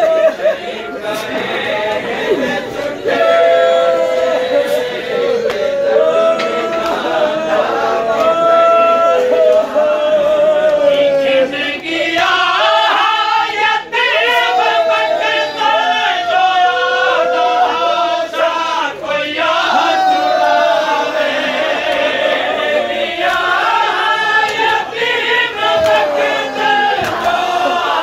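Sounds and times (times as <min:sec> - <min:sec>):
men singing a lament in chorus: 0:00.0 - 0:28.0.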